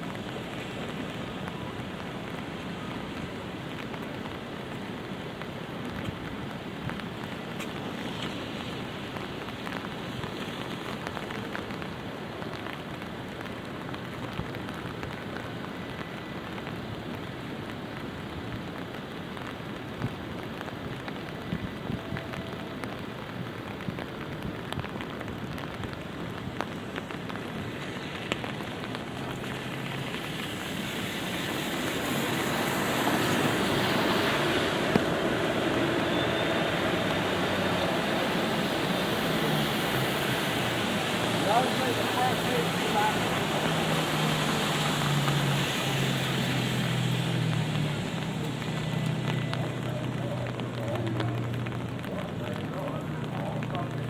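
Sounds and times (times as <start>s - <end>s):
light rain falling: 0.0s - 54.0s
raindrops ticking on umbrella: 0.0s - 54.0s
vehicle noise: 0.0s - 54.0s.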